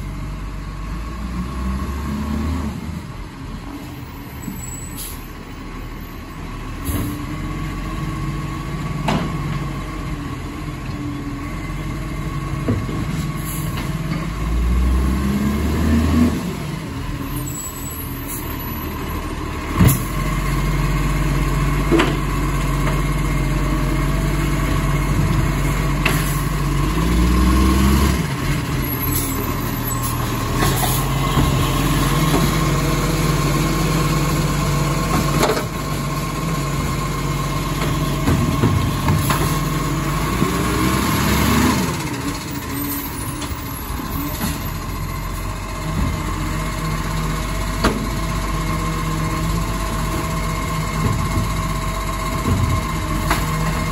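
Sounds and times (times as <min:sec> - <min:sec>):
garbage truck diesel engine revving: 0:00.0 - 0:04.1, 0:05.4 - 0:53.9.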